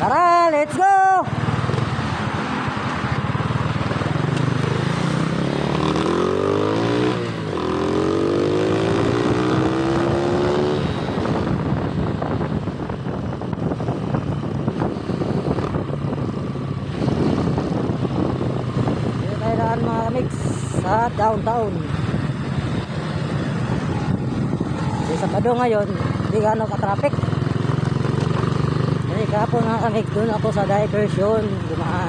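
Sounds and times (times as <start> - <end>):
motorcycle engine accelerating: 1.2 - 32.0
wind noise on microphone: 5.3 - 32.0.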